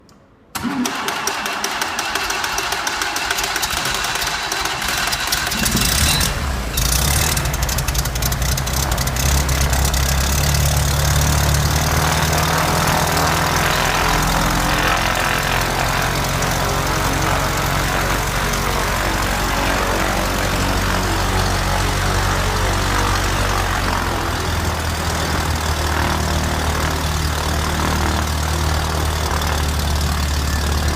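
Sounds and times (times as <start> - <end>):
aircraft engine starting and running: 0.1 - 30.9.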